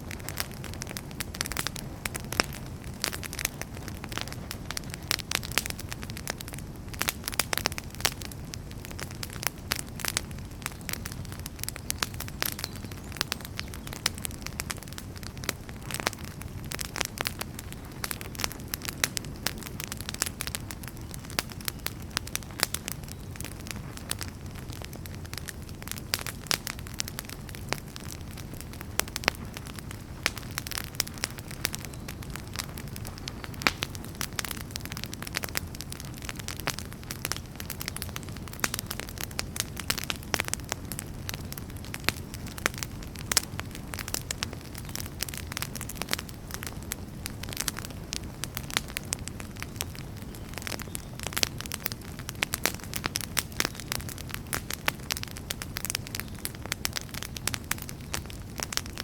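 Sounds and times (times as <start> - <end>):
logs crackling and popping: 0.0 - 59.0
low flame rush: 0.0 - 59.0.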